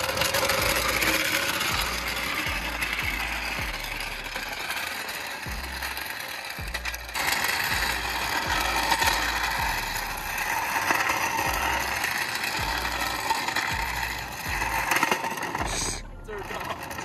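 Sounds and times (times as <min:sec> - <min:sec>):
floor jack rattling over asphalt: 0:00.0 - 0:17.0.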